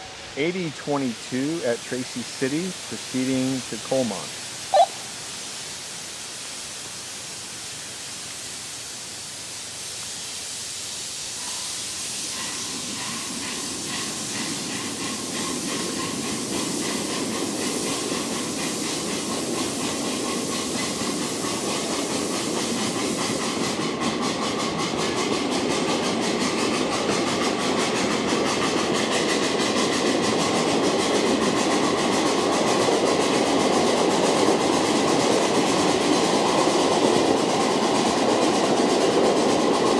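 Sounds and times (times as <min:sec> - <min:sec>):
fast steam exhaust beat: 0:00.0 - 0:39.9
steam locomotive hissing: 0:00.0 - 0:39.9.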